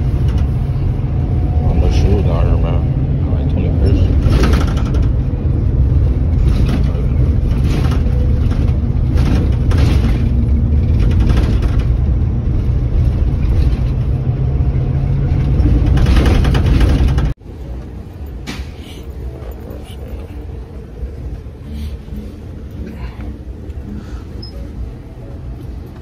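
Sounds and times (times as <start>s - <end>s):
engine and road rumble: 0.0s - 26.0s
quieter steady rumble: 0.0s - 26.0s.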